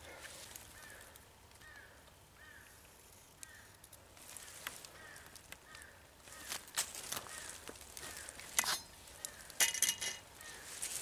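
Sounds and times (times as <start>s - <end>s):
quiet woodland background: 0.0s - 11.0s.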